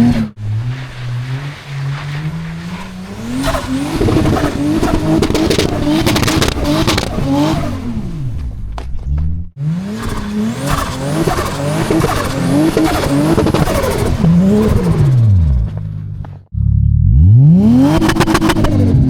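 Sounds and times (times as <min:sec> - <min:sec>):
car engine revving hard: 0:00.0 - 0:08.4, 0:09.5 - 0:15.9, 0:16.6 - 0:19.0.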